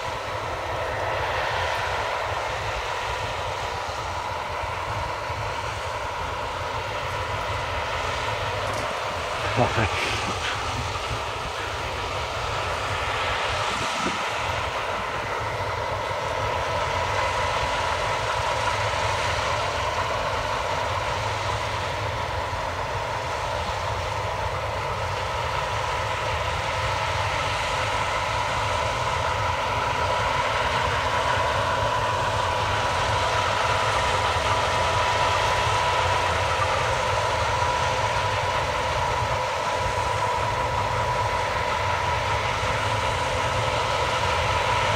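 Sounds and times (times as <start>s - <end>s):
combine harvester drone: 0.0s - 44.9s
high mechanical whine: 0.0s - 44.9s.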